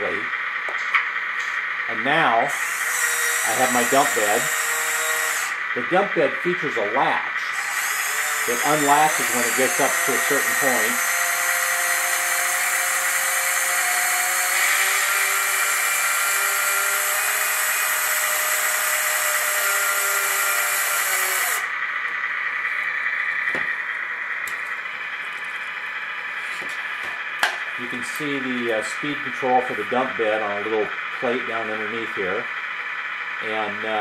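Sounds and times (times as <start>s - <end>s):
small electric motor whirring: 2.5s - 5.8s, 7.4s - 34.0s.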